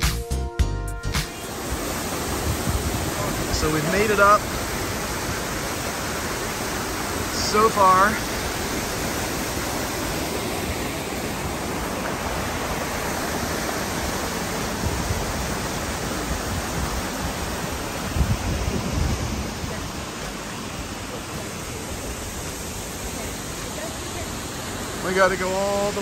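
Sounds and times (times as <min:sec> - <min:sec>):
waterfall rushing over rock: 0:01.3 - 0:26.0.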